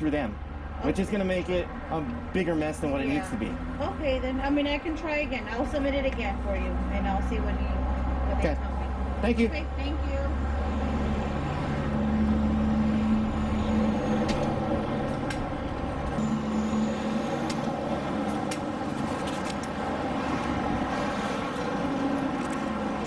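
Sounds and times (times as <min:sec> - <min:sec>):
passing vehicle engines: 0:00.0 - 0:23.0
road noise: 0:00.0 - 0:23.0.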